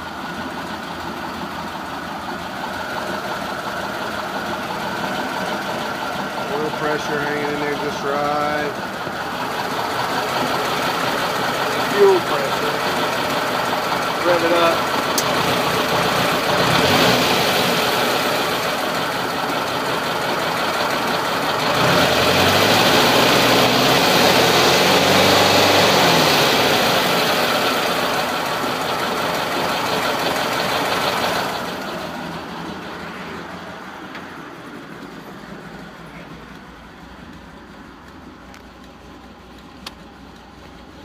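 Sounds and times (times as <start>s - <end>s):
car engine revving: 2.7s - 41.0s.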